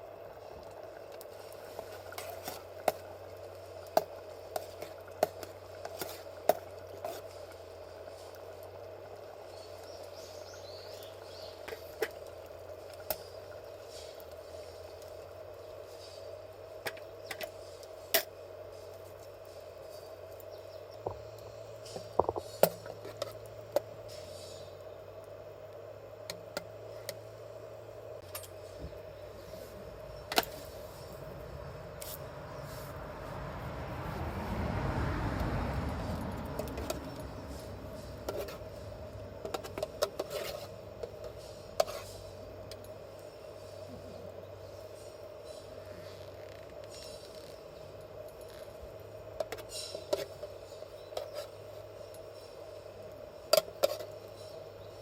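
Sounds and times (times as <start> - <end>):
steady hum: 0.0 - 46.0.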